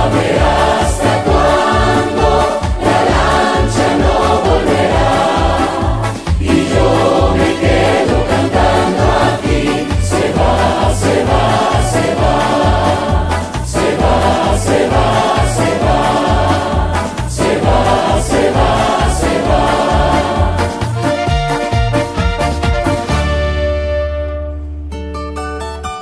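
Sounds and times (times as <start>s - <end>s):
choir singing: 0.0s - 21.2s
band accompaniment with bass line: 0.0s - 26.0s.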